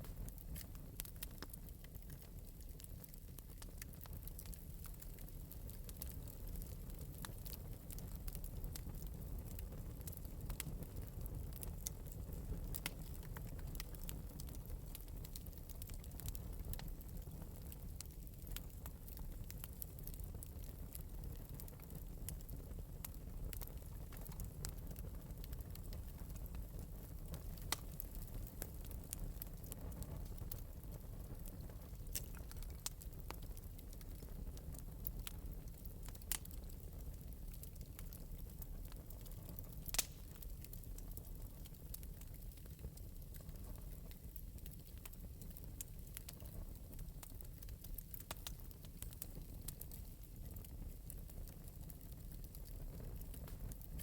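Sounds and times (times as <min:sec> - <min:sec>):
low rumble of flame: 0:00.0 - 0:54.0
wood fire crackling: 0:00.0 - 0:54.0.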